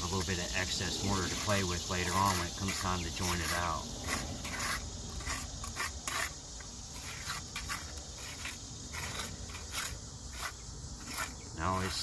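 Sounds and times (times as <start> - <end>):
trowel scraping mortar: 0.0 - 12.0.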